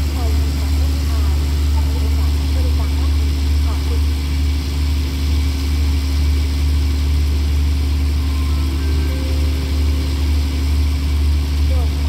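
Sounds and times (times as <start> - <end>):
diesel train idling: 0.0 - 12.0.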